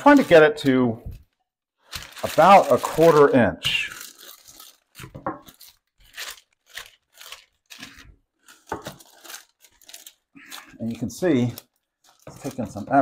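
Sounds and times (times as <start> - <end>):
parchment paper crinkling: 0.0 - 13.0.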